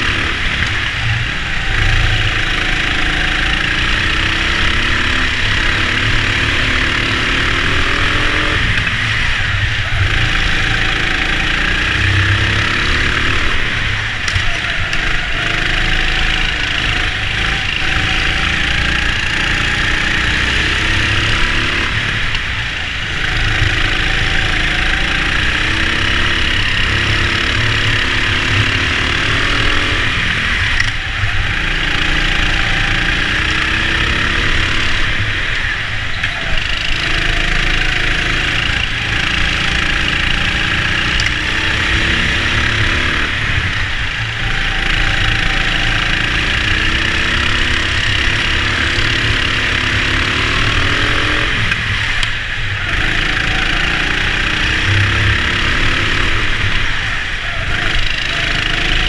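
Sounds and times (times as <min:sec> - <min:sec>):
go-kart motor accelerating: 0:00.0 - 0:59.0.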